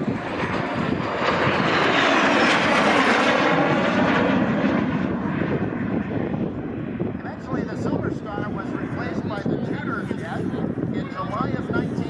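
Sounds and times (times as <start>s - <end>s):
jet flying past: 0.0s - 12.0s.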